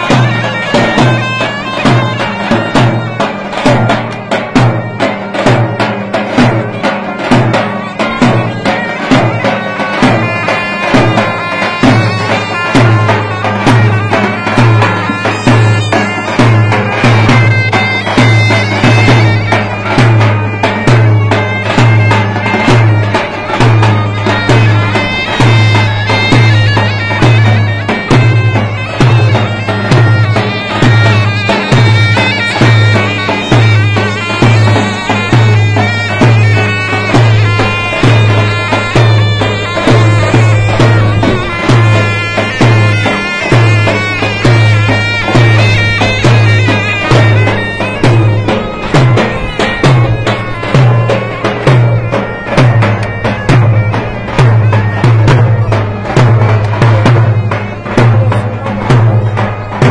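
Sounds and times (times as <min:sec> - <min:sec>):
bass drum beats: 0:00.0 - 0:59.9
shrill reed pipe melody: 0:00.0 - 0:59.9.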